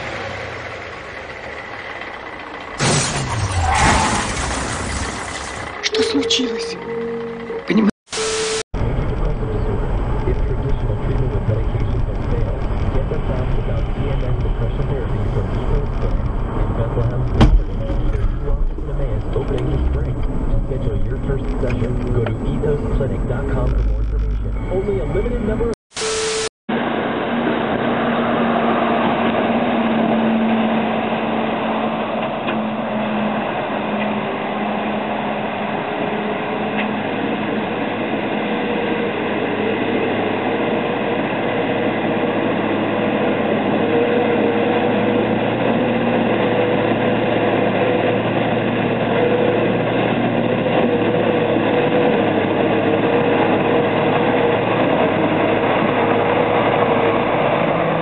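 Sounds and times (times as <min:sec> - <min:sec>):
diesel truck engine running: 0:00.0 - 0:25.8, 0:26.8 - 0:58.0.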